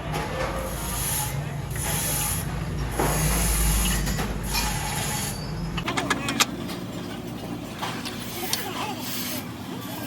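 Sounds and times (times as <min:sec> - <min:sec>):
low motor hum: 0:00.0 - 0:08.4.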